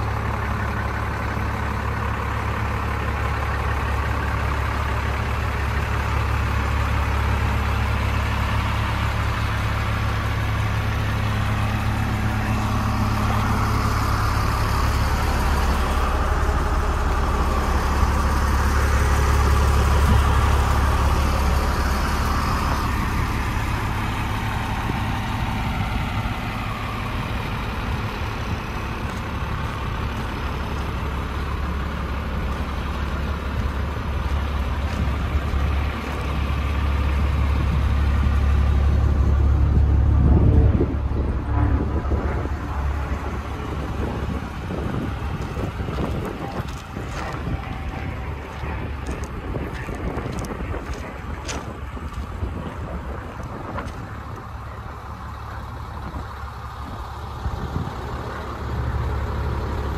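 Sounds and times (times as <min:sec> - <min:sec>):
diesel truck idling: 0:00.0 - 0:59.9.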